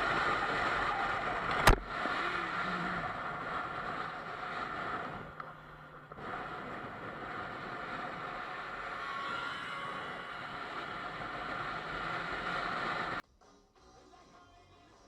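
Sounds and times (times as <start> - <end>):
car road and wind noise: 0.0 - 13.2.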